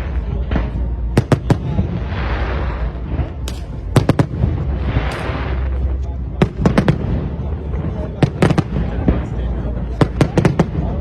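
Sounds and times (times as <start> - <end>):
fireworks bangs: 0.0 - 11.0
low rumble: 0.0 - 11.0.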